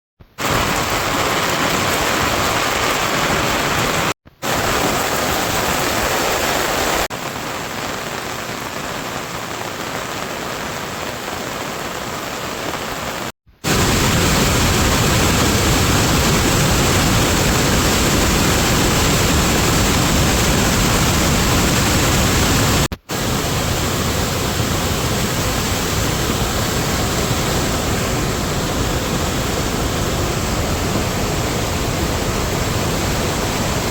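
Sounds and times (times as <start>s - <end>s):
steady rain falling: 0.3s - 33.9s.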